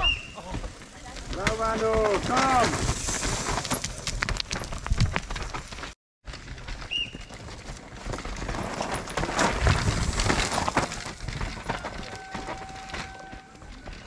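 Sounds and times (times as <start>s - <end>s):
mountain bike clattering over dirt: 0.0s - 14.0s.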